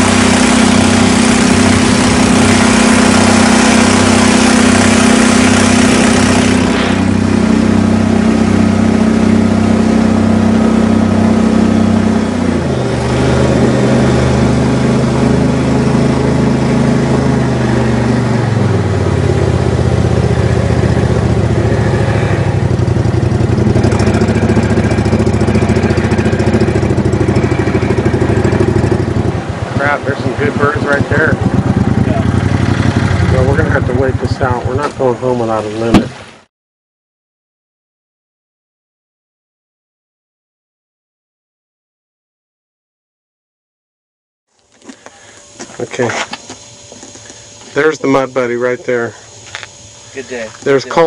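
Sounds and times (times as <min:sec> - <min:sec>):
engine running: 0:00.0 - 0:36.5, 0:44.5 - 0:51.0.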